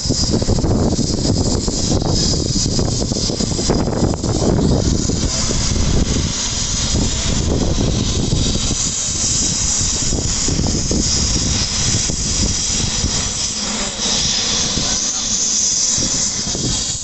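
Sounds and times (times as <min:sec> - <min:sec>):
helicopter rotor rumbling: 0:00.0 - 0:17.0
helicopter turbine hiss: 0:00.0 - 0:17.0.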